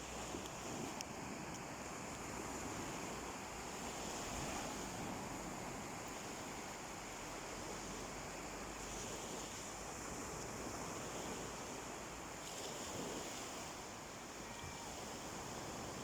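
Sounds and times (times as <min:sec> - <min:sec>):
sea waves washing onto beach: 0:00.0 - 0:16.0.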